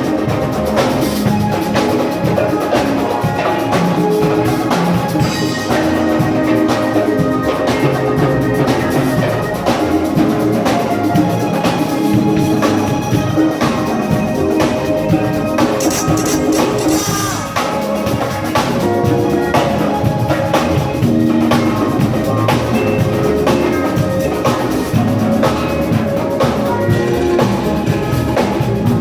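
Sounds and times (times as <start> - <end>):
band playing loud music: 0.0 - 29.0
drum hits: 0.0 - 29.0.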